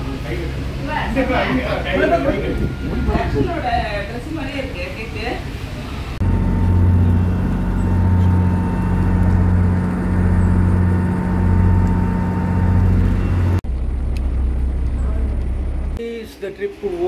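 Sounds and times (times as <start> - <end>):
boat engine droning: 0.0 - 16.0
low steady hum: 0.0 - 16.2.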